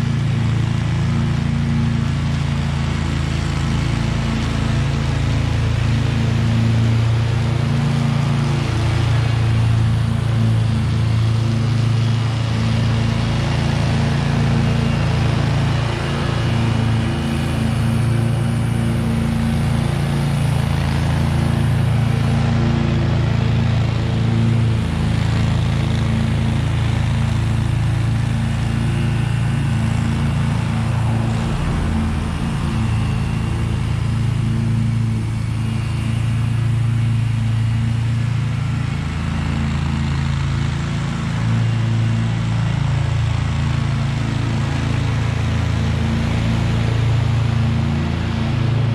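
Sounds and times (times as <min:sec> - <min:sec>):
mower engine droning: 0:00.0 - 0:48.9.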